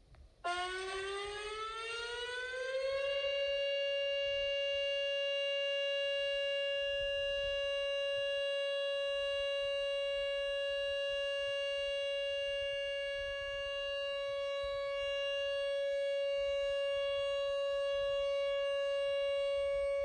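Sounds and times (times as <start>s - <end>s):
warning siren steady tone: 0.4s - 20.0s.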